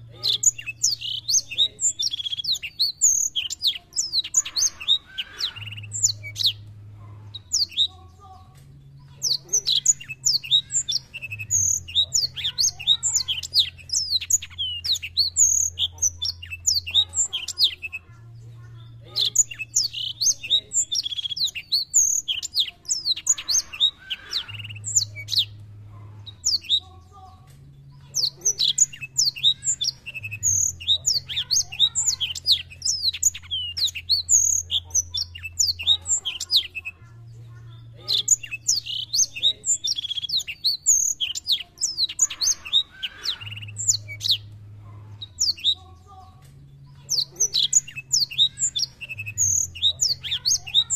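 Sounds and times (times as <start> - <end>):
bird singing high twittering song: 0.0 - 50.9.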